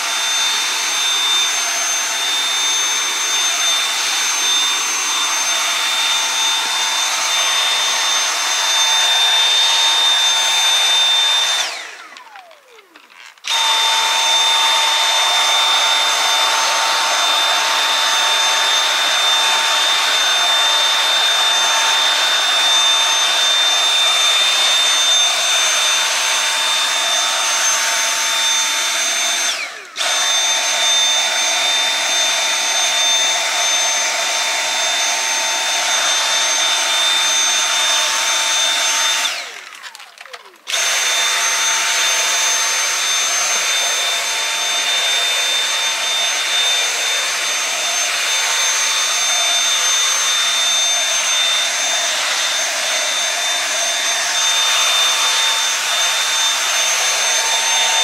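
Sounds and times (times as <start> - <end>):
cordless vacuum whining: 0.0 - 58.0.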